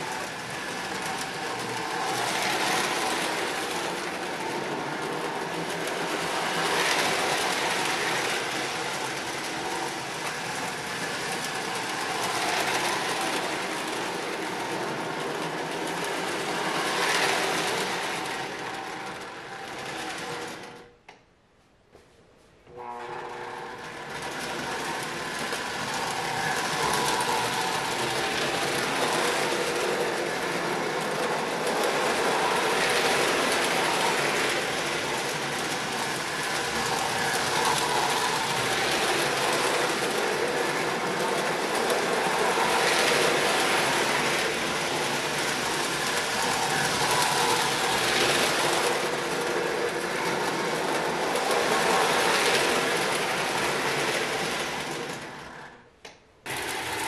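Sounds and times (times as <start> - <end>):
toy train motor hum: 0.0 - 20.8, 22.8 - 55.8, 56.5 - 57.0.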